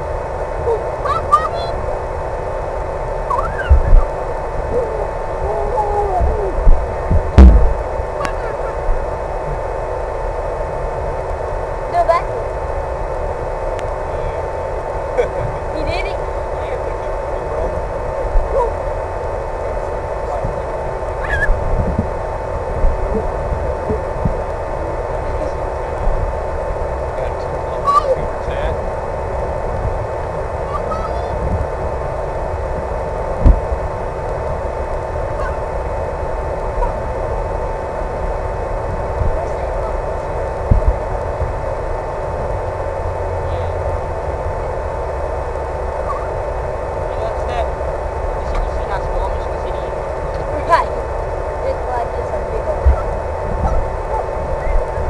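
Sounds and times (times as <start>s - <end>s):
constant high-pitched tone: 0.0s - 55.0s
electric motor whine: 0.0s - 55.0s
low rumble: 0.0s - 55.0s
rushing wind noise: 0.0s - 55.0s
steady hum and hiss: 0.0s - 55.0s.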